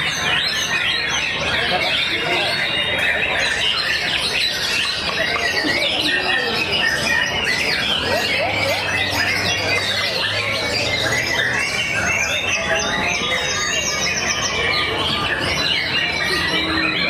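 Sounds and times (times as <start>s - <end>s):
caged songbirds singing: 0.0s - 17.0s.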